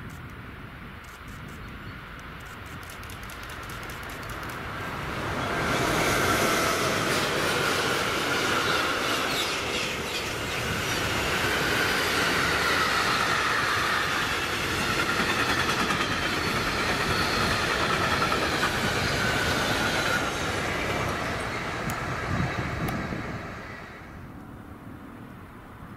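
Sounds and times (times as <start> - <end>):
freight train rolling rumble: 2.7 - 24.8.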